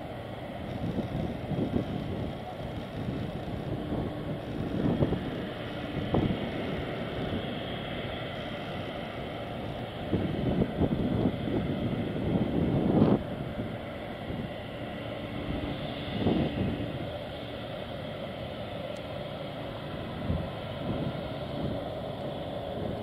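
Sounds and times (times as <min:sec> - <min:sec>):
wind buffeting microphone: 0:00.0 - 0:18.0, 0:19.7 - 0:23.0
jet engines rumbling at takeoff: 0:00.0 - 0:23.0.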